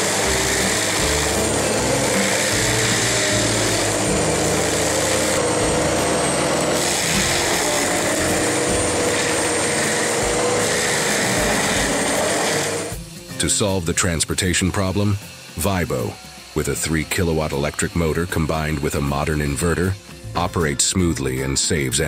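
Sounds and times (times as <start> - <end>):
forestry mulcher grinding wood: 0.0 - 22.0.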